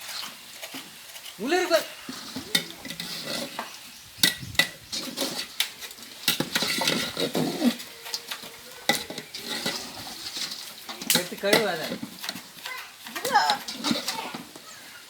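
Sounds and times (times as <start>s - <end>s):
faint sizzle: 0.0s - 15.0s
metal utensils clanking on pot: 0.0s - 15.0s.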